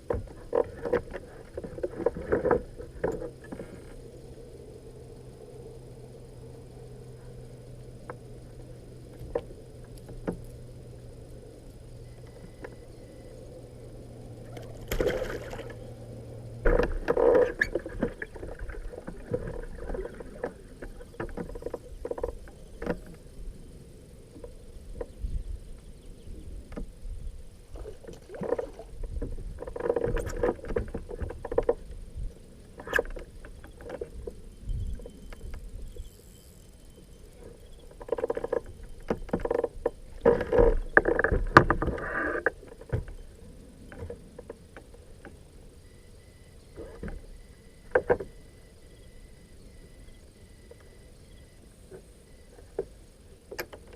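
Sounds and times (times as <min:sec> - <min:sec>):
low hum: 0:00.0 - 0:53.9.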